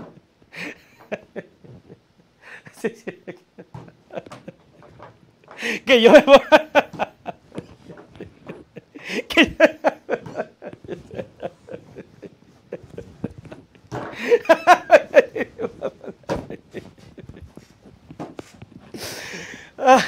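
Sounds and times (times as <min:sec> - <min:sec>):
man chuckling: 0:00.4 - 0:17.9, 0:18.8 - 0:20.0
man laughing heartily: 0:00.4 - 0:17.9, 0:18.9 - 0:20.0.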